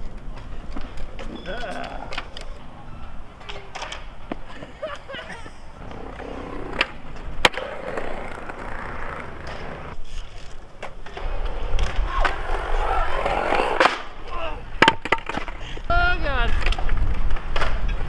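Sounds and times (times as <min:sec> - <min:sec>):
skateboard clacking on ground: 0:00.0 - 0:15.6
skateboard wheels rolling on concrete: 0:00.0 - 0:18.0.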